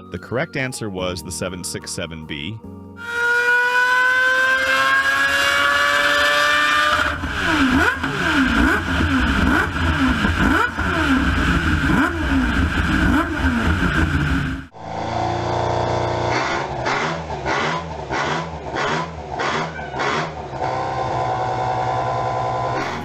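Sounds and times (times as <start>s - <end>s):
racing engine running hard: 3.1s - 23.0s.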